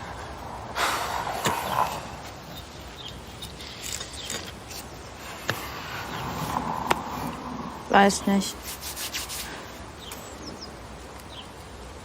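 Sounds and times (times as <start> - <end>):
rustling and scraping in soil: 0.0 - 10.4.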